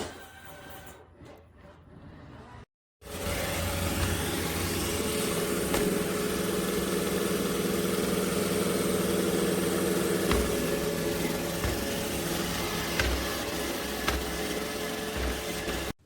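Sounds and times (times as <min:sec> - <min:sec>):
robot vacuum motor hum: 0:03.0 - 0:16.0.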